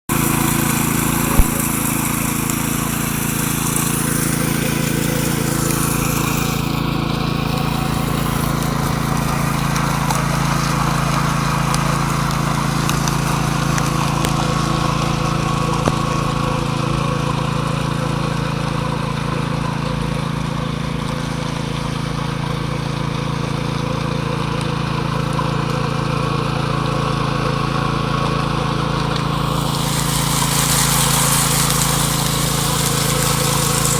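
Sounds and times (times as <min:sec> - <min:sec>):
power trowel humming: 0:00.0 - 0:33.9.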